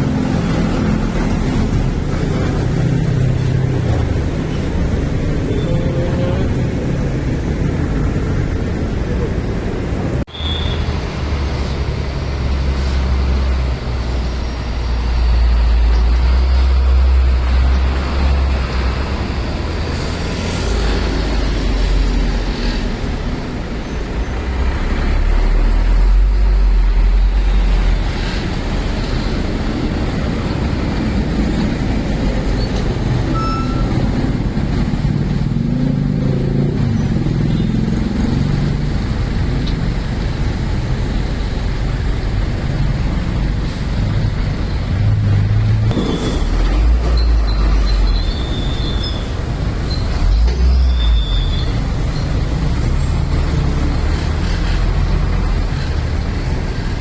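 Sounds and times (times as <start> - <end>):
heavy trucks driving past: 0.0 - 57.0
traffic noise: 0.0 - 57.0.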